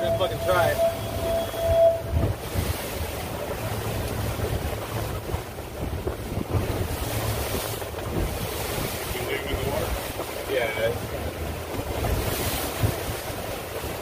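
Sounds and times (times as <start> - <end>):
outboard motors rumbling: 0.0 - 14.0
rushing water: 0.0 - 14.0
wind buffeting microphone: 0.0 - 14.0.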